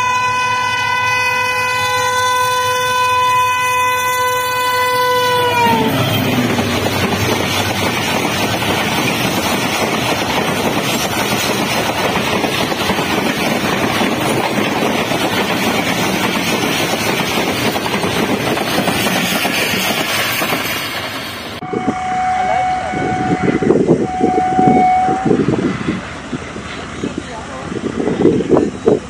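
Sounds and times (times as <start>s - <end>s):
train coaches rolling past: 0.0s - 29.0s.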